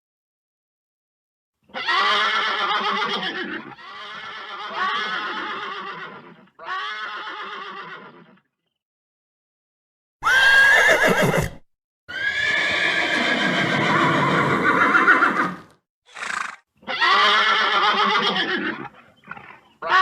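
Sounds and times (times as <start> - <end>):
horse neighing: 1.7 - 8.5, 10.2 - 20.0.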